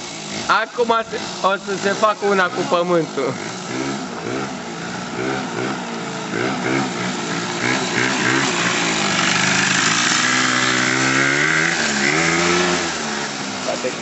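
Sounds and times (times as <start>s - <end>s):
scooter engine revving: 0.0s - 14.0s.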